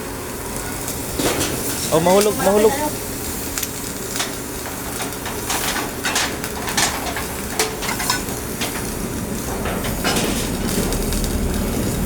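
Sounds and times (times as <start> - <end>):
arc welding crackle: 0.0 - 12.0.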